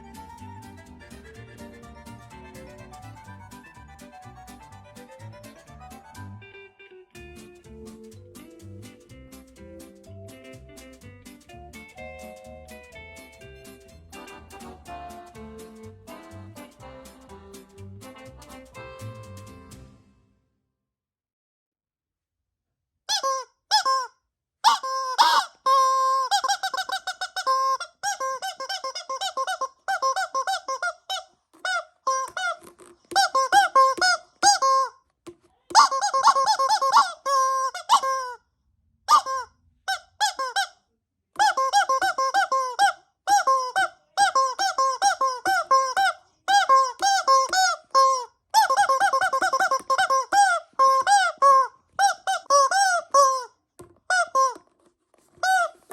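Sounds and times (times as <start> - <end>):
squeaky rubber toys squeaking: 0.0 - 6.6, 7.2 - 19.8, 23.1 - 38.4, 39.1 - 40.8, 41.4 - 55.9.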